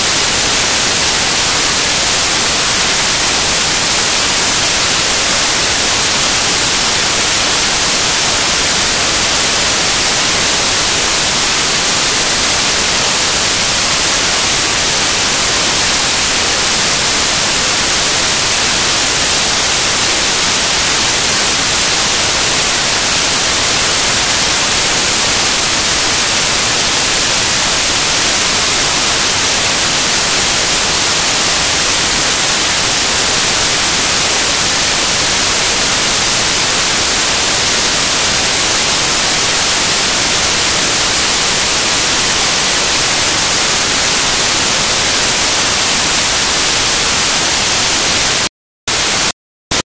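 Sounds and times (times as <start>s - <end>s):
static hiss: 0.0s - 49.8s.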